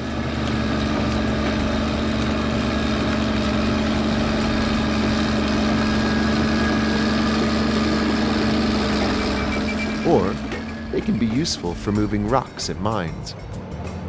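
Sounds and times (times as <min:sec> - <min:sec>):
bulldozer diesel engine drone: 0:00.0 - 0:14.0.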